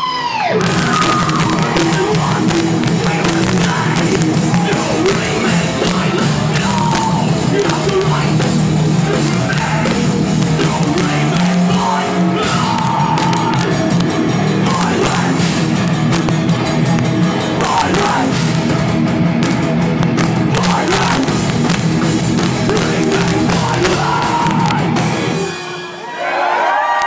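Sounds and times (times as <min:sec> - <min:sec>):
distorted guitars: 0:00.0 - 0:26.1
fast pounding drums: 0:00.6 - 0:25.9.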